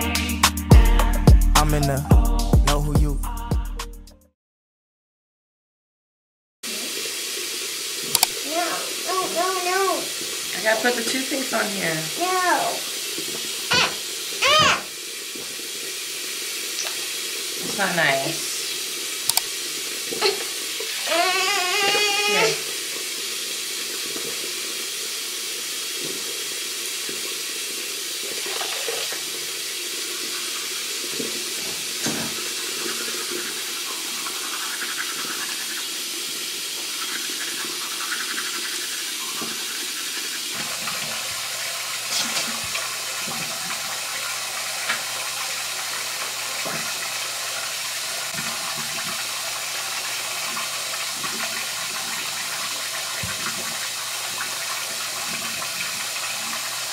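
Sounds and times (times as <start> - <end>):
sink tap running: 6.7 - 56.9.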